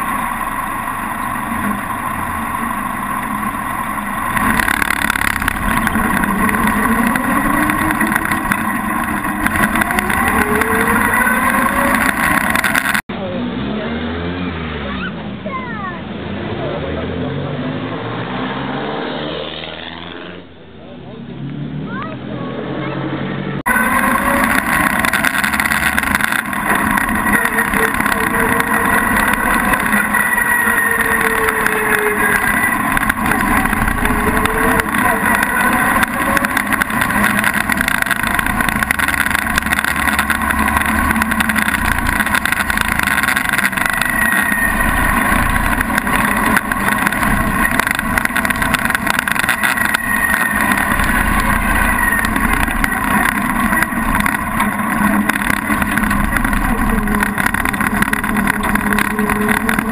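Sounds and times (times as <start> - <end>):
car engine running: 0.0 - 13.4, 23.6 - 59.9.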